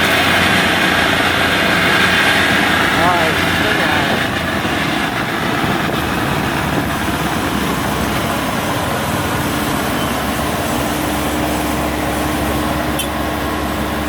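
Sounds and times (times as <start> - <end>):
diesel engine running: 0.0 - 14.0
steady hum: 0.0 - 14.0.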